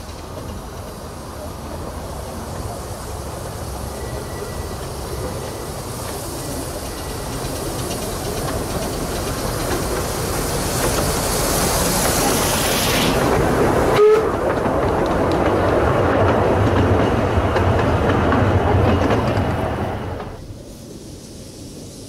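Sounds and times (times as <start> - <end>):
miniature steam locomotive running: 0.0 - 21.8.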